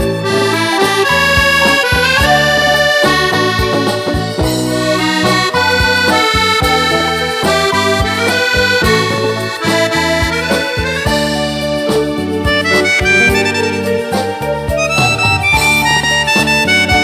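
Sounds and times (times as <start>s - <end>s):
button accordion melody: 0.0s - 17.0s
drum kit steady beat: 0.0s - 17.0s
electric keyboard: 0.0s - 17.0s.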